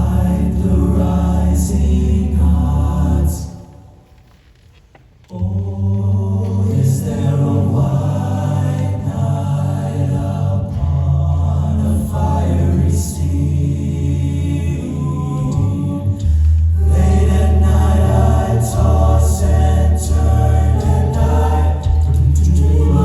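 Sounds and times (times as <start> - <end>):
low bass line: 0.0 - 3.5, 5.6 - 23.0
choir singing in parts: 0.0 - 4.0, 5.3 - 23.0.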